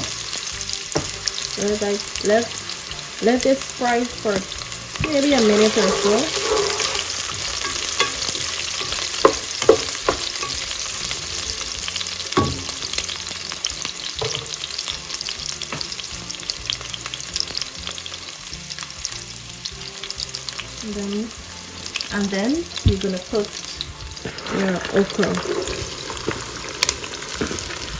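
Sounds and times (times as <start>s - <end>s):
garlic and onion sizzling in oil: 0.0s - 27.9s.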